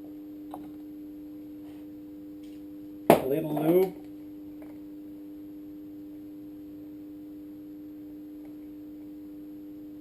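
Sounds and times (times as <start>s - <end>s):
steady hum-like tone: 0.0s - 10.0s.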